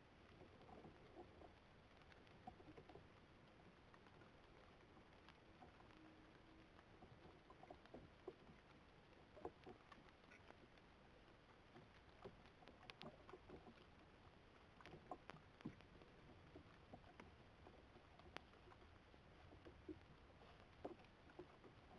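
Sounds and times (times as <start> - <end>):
faint night ambience hiss: 0.0 - 21.9
soft clicks and rustles: 0.0 - 21.9.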